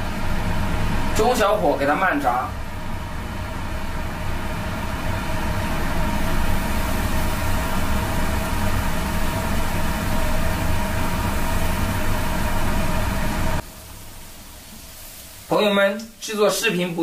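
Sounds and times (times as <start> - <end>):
food deep-frying in oil: 0.0 - 17.0.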